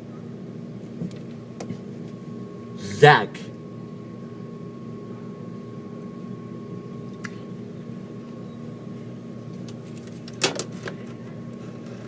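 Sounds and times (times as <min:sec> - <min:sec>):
steady hum with fixed tones: 0:00.0 - 0:12.0.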